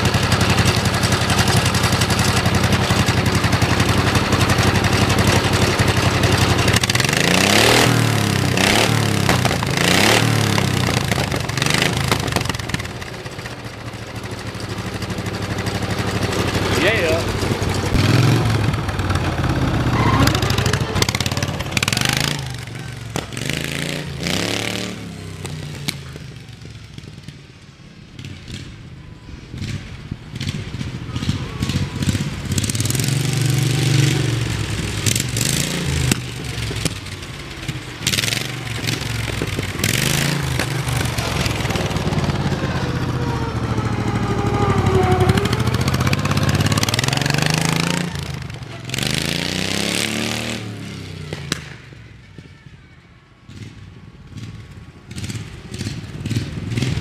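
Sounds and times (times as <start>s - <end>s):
mower engine revving: 0.0s - 26.2s, 29.5s - 51.8s.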